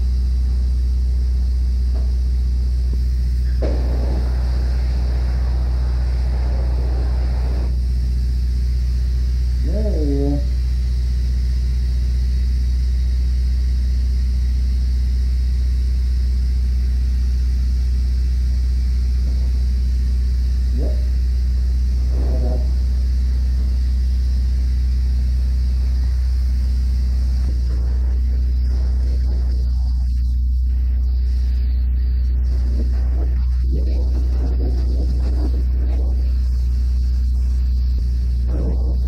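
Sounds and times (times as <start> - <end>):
low mechanical drone with hiss: 0.0 - 39.0.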